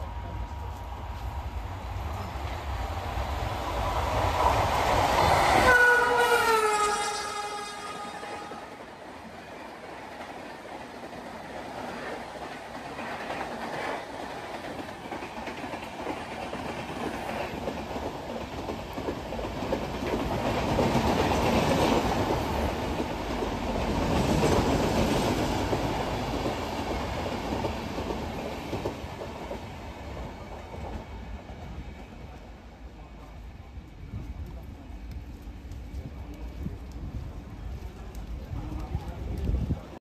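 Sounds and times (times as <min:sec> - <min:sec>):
train passing at speed: 0:00.0 - 0:40.0.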